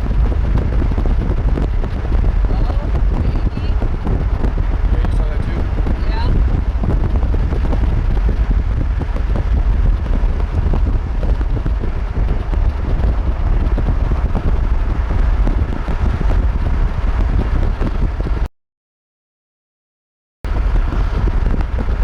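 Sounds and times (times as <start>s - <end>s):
strong wind buffeting microphone: 0.0s - 18.5s, 20.5s - 22.0s.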